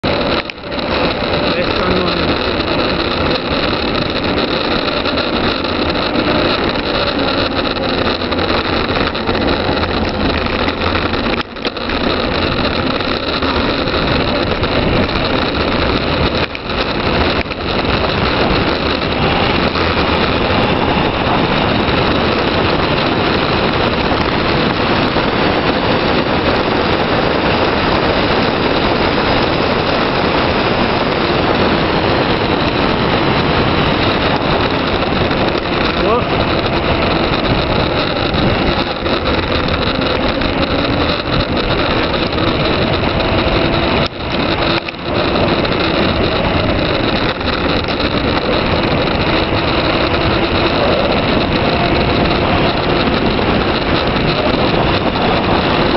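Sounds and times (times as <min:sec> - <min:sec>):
road noise: 0:00.0 - 0:55.9
wind rushing: 0:00.0 - 0:55.9.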